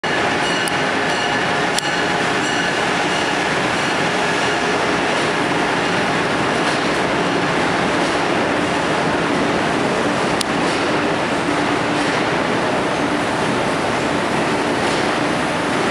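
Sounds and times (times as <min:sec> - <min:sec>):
train rumbling on rails: 0:00.0 - 0:15.9.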